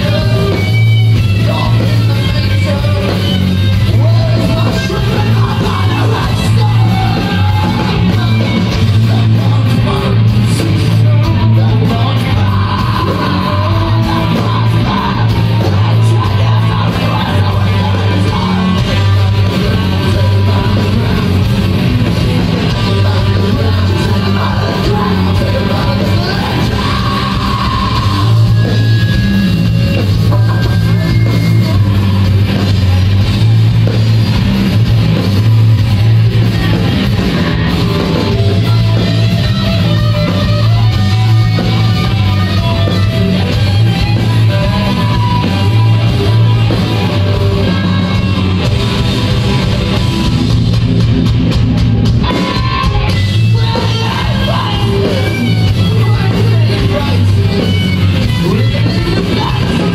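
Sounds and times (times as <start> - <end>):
live rock band with singer: 0.0 - 59.9.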